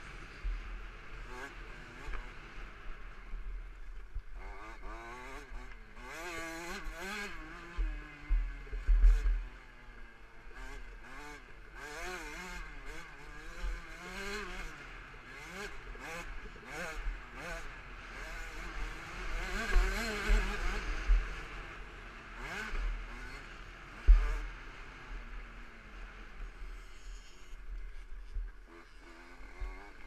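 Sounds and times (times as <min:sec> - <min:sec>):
motocross engine revving: 0:00.0 - 0:03.2, 0:04.3 - 0:30.0.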